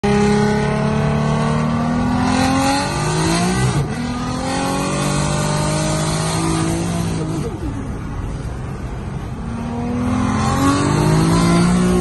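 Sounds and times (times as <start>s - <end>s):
turbocharged engine accelerating: 0.0s - 8.4s, 9.2s - 12.0s.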